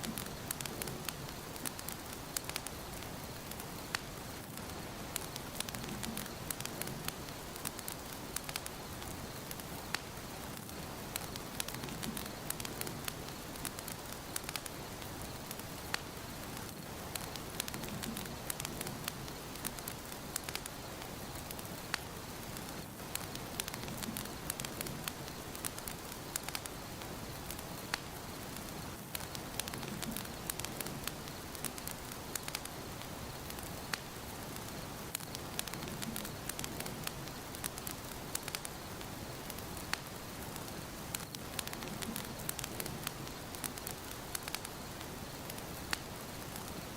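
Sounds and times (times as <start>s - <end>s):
fireplace fire crackling: 0.0s - 46.9s.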